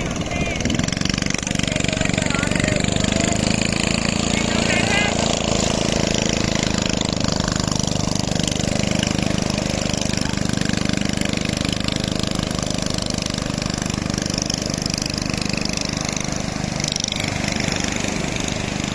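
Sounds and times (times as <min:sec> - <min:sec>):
boat engine running: 0:00.0 - 0:18.9.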